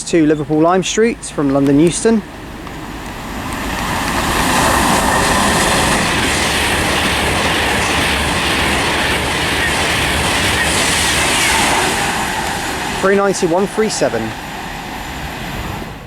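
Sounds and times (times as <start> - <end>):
electric train passing: 0.0 - 16.0.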